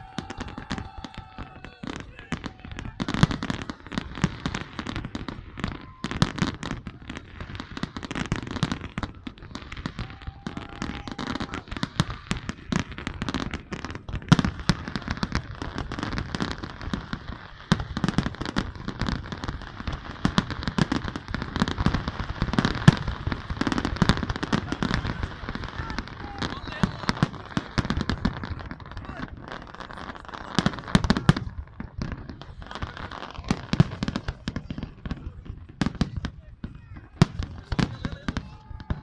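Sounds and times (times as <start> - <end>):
fireworks bangs and crackling pops: 0.0 - 39.0.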